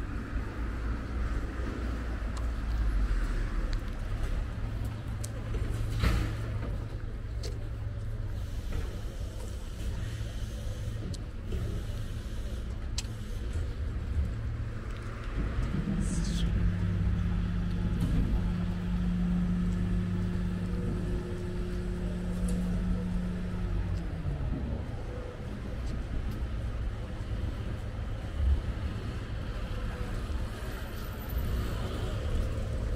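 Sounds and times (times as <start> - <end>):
street traffic rumble: 0.0 - 32.9
vehicle engine humming: 0.0 - 32.9.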